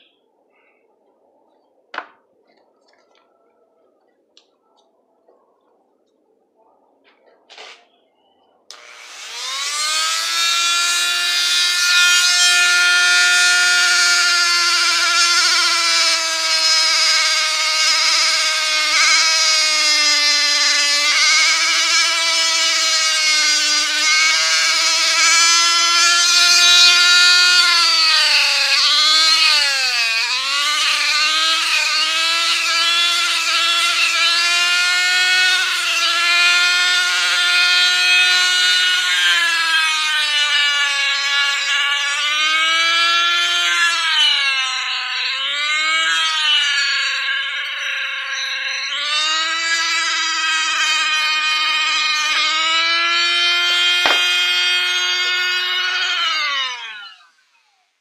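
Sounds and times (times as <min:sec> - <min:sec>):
rotary tool sanding whine: 0:08.7 - 0:57.5.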